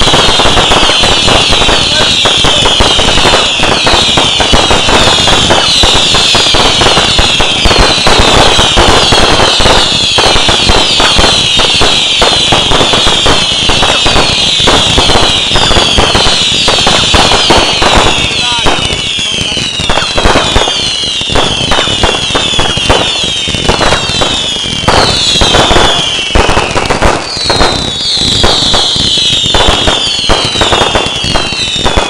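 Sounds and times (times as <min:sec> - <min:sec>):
falling firework whistles: 0:00.0 - 0:32.0
fireworks bangs and crackles: 0:00.0 - 0:32.0.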